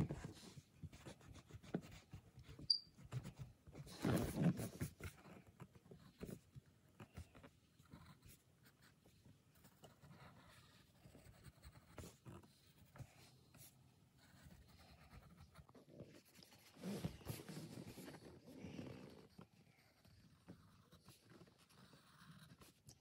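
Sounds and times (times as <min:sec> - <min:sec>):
pencil scratching on paper: 0:00.0 - 0:23.0.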